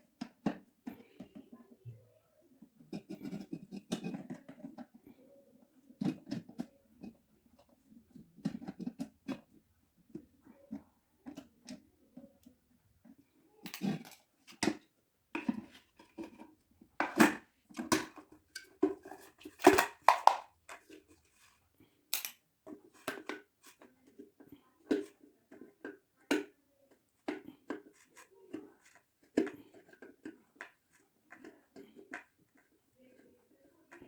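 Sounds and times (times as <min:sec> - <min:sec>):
plastic kettle parts clicking and rattling: 0:02.8 - 0:05.1, 0:05.8 - 0:21.5, 0:22.1 - 0:34.0.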